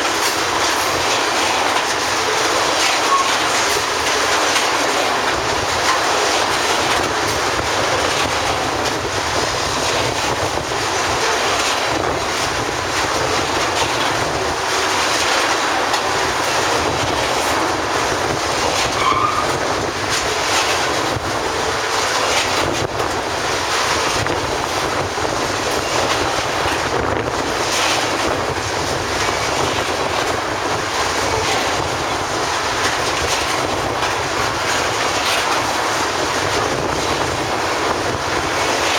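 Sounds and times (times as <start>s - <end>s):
steel wheels clattering over rail joints: 0.0s - 38.9s
train cars rumbling past: 0.0s - 38.9s.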